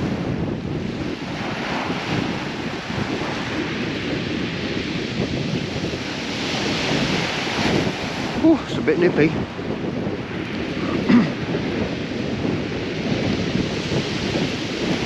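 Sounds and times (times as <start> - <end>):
surf washing on shingle: 0.0 - 15.0
wind buffeting microphone: 0.0 - 15.0.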